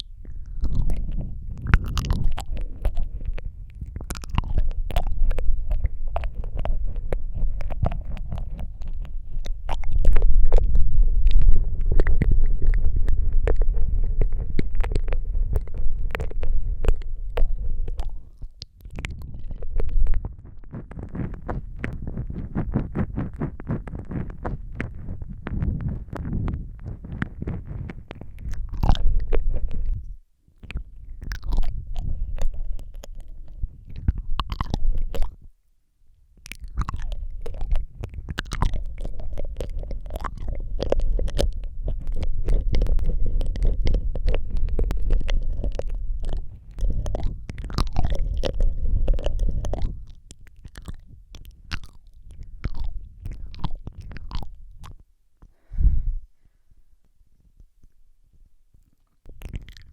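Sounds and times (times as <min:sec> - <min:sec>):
wet lip smacks: 0:00.0 - 0:35.4, 0:36.4 - 0:55.6, 0:58.9 - 0:59.9
tongue clicks: 0:00.0 - 0:35.5, 0:36.4 - 0:55.7, 0:58.8 - 0:59.9
low rumble from microphone: 0:00.0 - 0:59.9.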